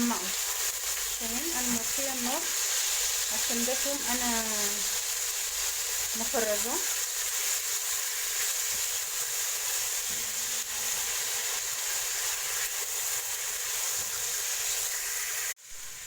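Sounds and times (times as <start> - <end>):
garlic sizzling in oil: 0.0 - 16.0.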